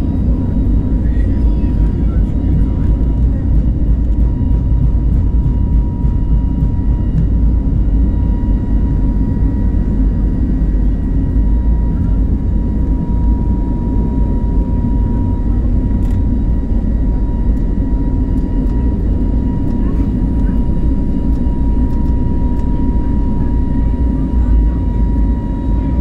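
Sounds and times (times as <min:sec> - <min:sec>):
jet engine low rumble: 0:00.0 - 0:26.0
jet engine whine: 0:00.0 - 0:26.0.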